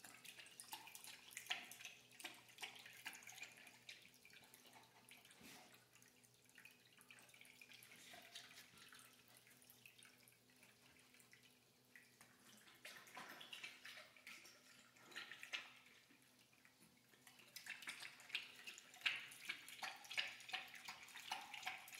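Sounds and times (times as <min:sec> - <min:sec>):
dog lapping water: 0:00.0 - 0:21.9
water fountain trickling: 0:00.0 - 0:21.9.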